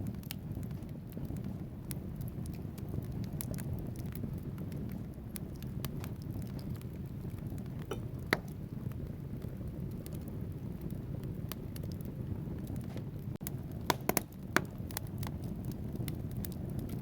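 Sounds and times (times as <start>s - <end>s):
logs crackling and popping: 0.0s - 17.0s
wood fire burning: 0.0s - 17.0s.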